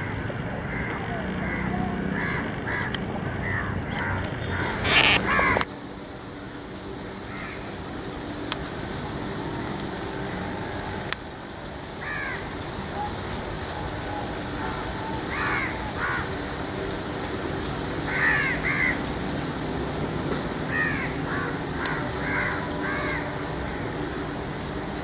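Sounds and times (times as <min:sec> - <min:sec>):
birds calling: 0:00.0 - 0:11.2, 0:11.8 - 0:25.0.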